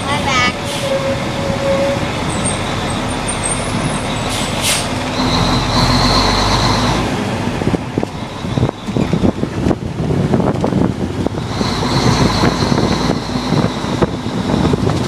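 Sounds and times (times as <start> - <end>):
fire truck engine: 0.0 - 15.0
road noise: 0.0 - 15.0.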